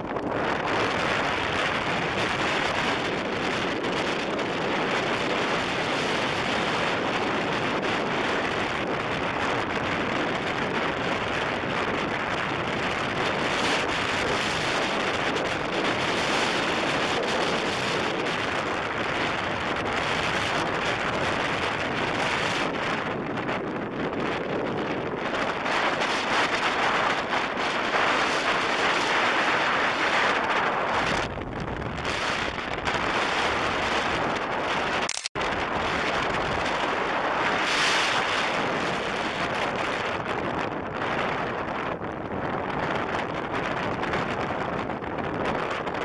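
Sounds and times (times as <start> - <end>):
strong wind on microphone: 0.0 - 46.0.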